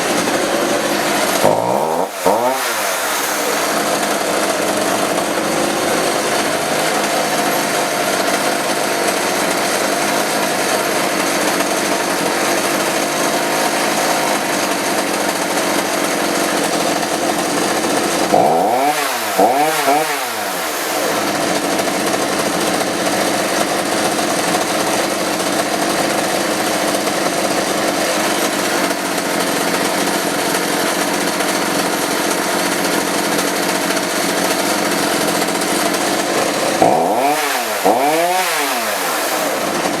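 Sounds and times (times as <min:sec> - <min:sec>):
chainsaw engine running and revving: 0:00.0 - 0:40.0.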